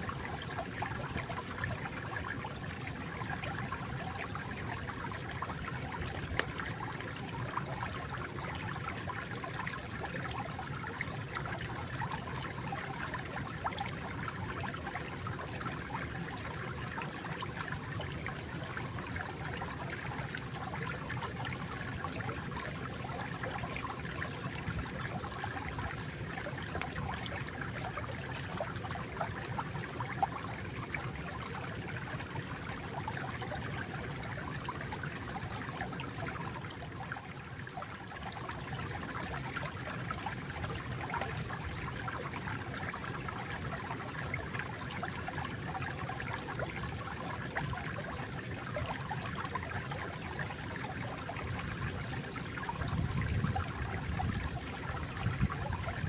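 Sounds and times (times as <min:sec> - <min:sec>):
stream water trickling and babbling: 0:00.0 - 0:56.0.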